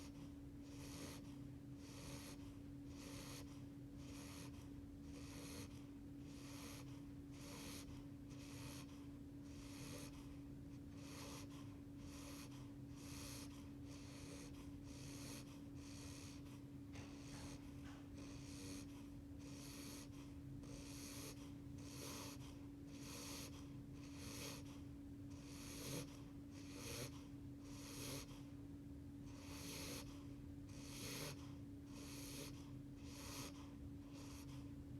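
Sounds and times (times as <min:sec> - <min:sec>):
puppy snoring softly: 0:00.0 - 0:34.9.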